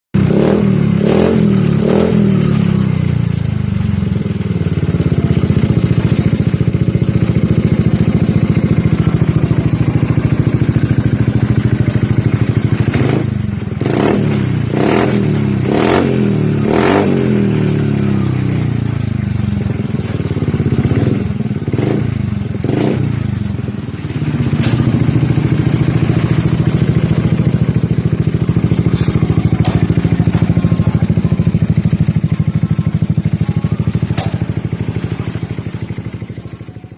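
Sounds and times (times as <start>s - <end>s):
scooter engine idling and revving: 0.2s - 36.9s.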